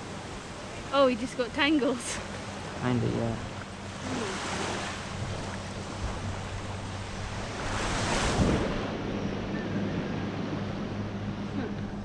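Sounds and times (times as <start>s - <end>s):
surf washing on shore: 0.0s - 12.0s
wind buffeting microphone: 0.0s - 12.0s.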